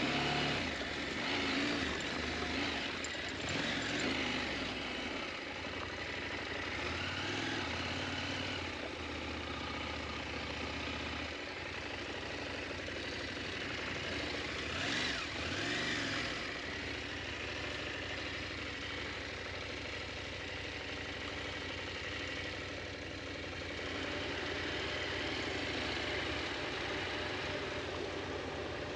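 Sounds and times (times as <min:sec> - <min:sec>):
motorcycle engine at low revs: 0:00.0 - 0:28.9.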